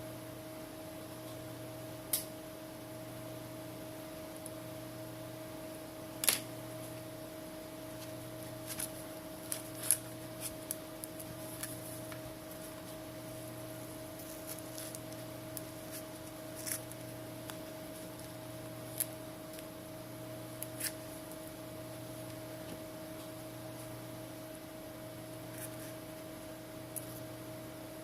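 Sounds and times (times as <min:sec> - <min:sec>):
steady electrical hum: 0:00.0 - 0:28.0.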